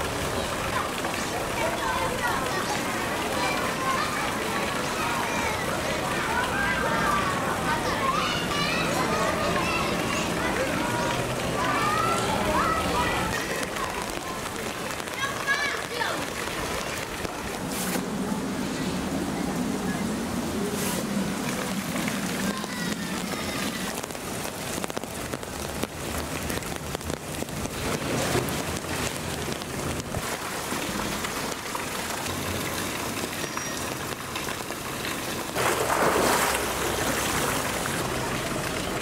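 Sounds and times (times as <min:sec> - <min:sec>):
water splashing: 0:00.0 - 0:18.2, 0:19.6 - 0:39.0
steady rain falling: 0:00.0 - 0:39.0.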